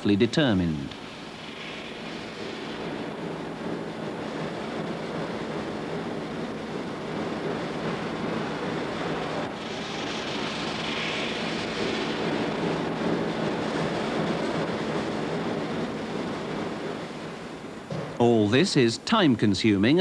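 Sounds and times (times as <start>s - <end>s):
rushing background noise: 0.0s - 20.0s.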